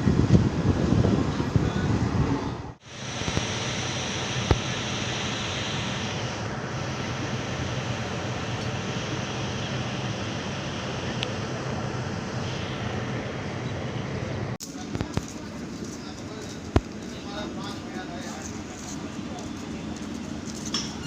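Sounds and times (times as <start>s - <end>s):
train rushing noise: 0.0s - 21.0s.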